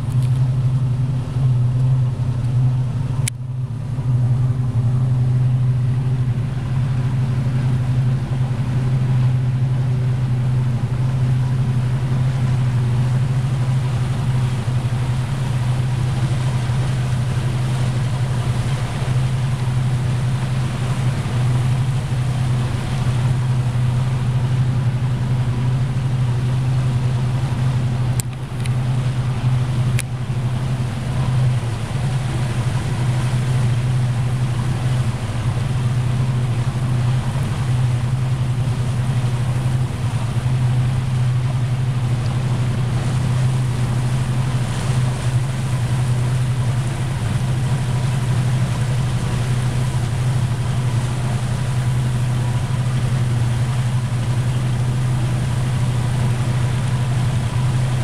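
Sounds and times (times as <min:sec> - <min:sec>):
motorboat engine humming: 0:00.0 - 0:58.0
wind and water hiss: 0:00.0 - 0:58.0.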